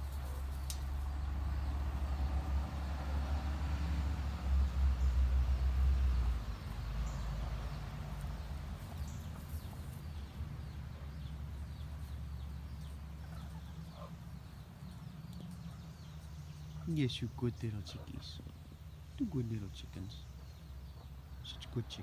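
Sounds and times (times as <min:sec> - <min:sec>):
chickens clucking and chirping: 0:00.0 - 0:22.0
vehicle rumble: 0:00.0 - 0:22.0.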